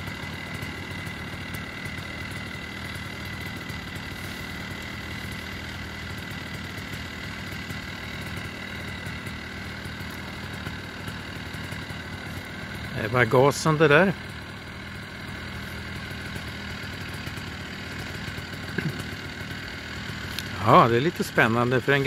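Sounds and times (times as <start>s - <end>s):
propeller engine idling: 0.0s - 22.0s.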